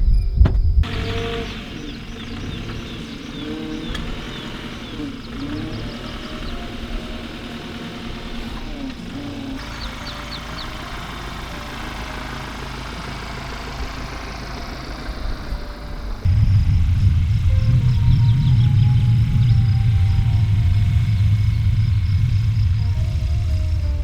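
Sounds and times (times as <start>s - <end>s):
diesel engine idling: 0.8s - 24.0s.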